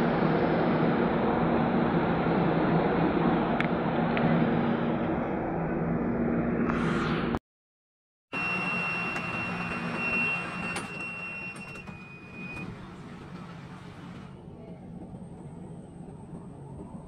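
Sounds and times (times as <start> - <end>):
train car rumble and hum: 0.0 - 7.4, 8.4 - 17.0.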